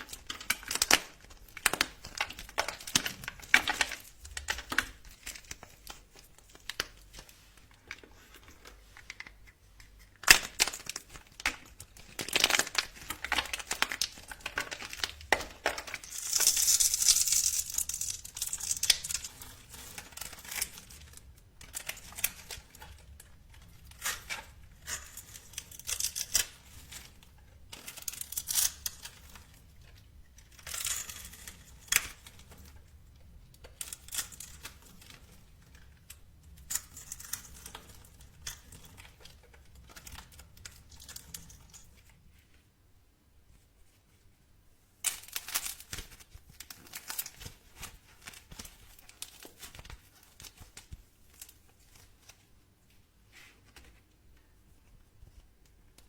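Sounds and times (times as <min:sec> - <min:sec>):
crinkling and tearing: 0:00.0 - 0:42.6, 0:45.0 - 0:56.0.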